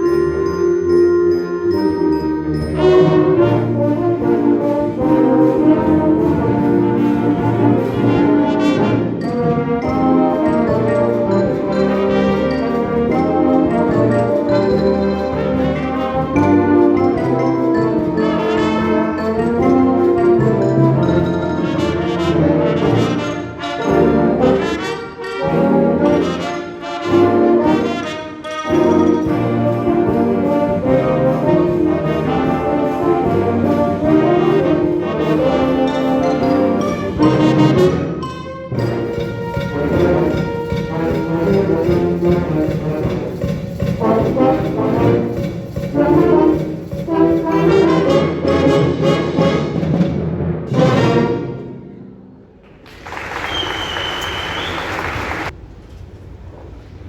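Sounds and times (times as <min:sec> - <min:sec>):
brass sustained chords: 0:00.0 - 0:52.4
concert wind band playing: 0:00.0 - 0:55.6.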